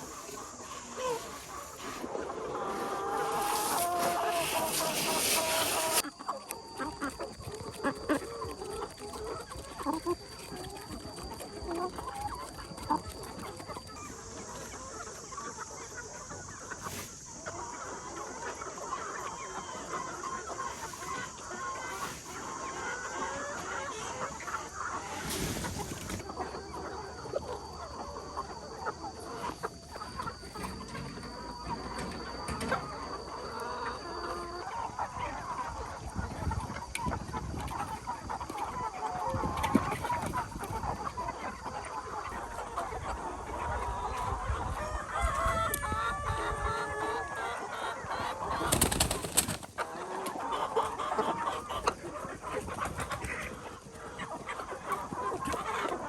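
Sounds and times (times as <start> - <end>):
steady high-pitched hum: 0.0 - 49.7
chickens clucking: 0.0 - 56.0.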